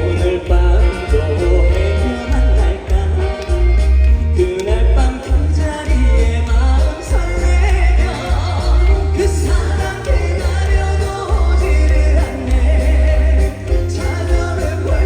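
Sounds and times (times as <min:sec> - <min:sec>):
band music with bass beat: 0:00.0 - 0:15.0
man singing through sound system: 0:00.0 - 0:15.0.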